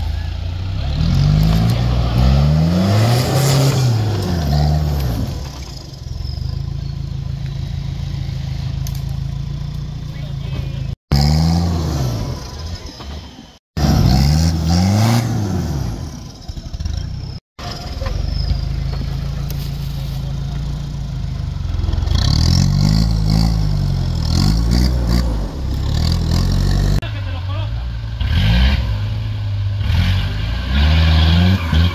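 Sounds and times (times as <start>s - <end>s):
diesel engine revving under load: 0.0s - 9.5s, 10.1s - 19.3s, 20.2s - 27.1s, 28.1s - 31.9s.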